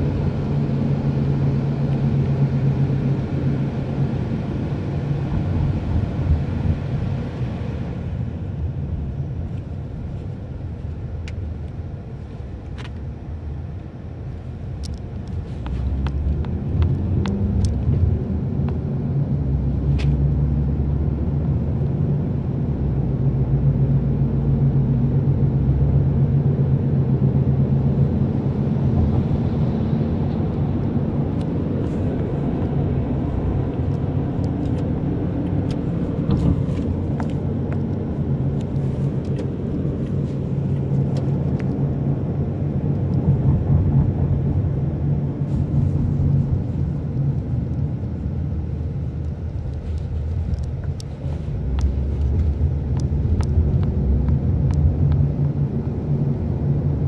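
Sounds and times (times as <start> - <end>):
engine and road rumble in a car: 0.0 - 57.0.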